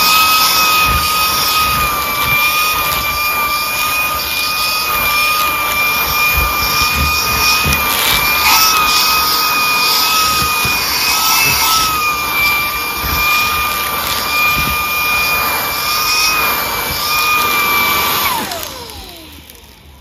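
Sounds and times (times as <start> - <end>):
vacuum motor whine: 0.0 - 20.0.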